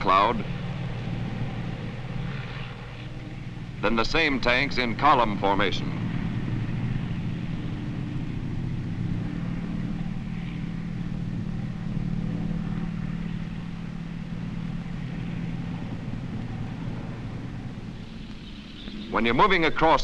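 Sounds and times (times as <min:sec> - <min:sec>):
tank engine drone: 0:00.0 - 0:20.0.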